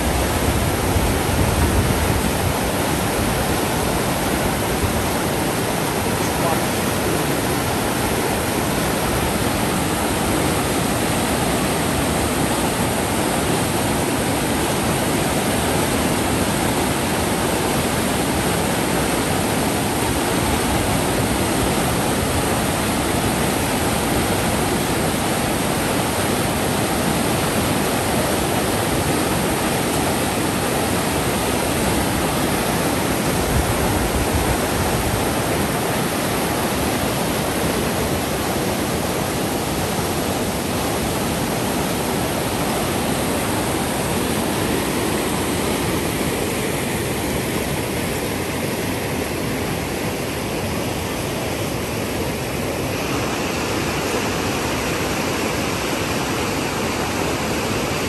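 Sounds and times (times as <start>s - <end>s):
floodwater rushing: 0.0s - 58.0s.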